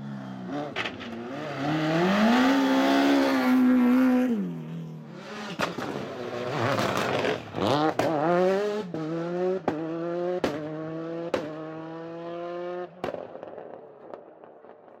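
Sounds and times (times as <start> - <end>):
rally car engine revving: 0.0 - 12.9.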